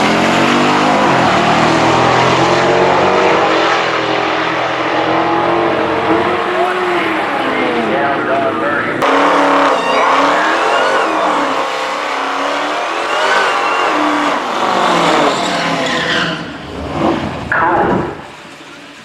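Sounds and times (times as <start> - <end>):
car engine revving: 0.0 - 18.6
tires squealing: 0.0 - 19.0.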